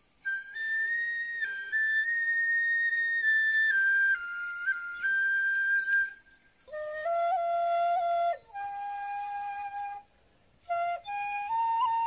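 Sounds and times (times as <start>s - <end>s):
bamboo flute melody: 0.0s - 12.0s.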